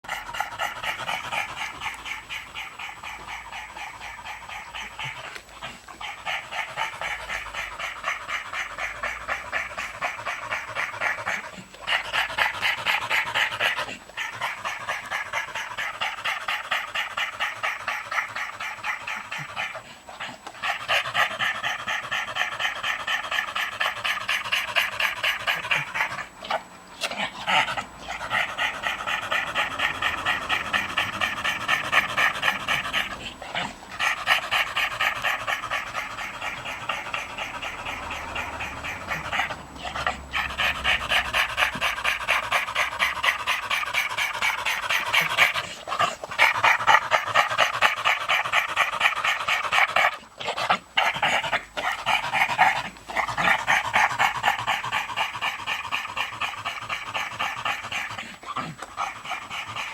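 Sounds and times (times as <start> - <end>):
dog panting: 0.0 - 59.9.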